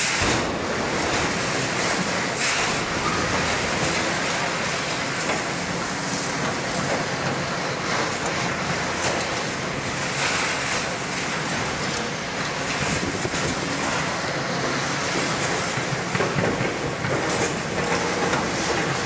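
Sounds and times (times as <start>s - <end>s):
excavator diesel engines rumbling: 0.0s - 19.0s.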